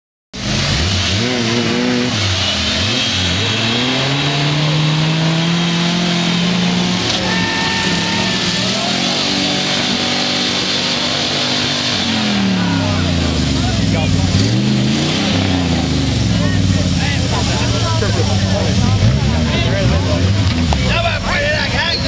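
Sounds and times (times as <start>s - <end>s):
truck engines revving hard: 0.4s - 22.0s.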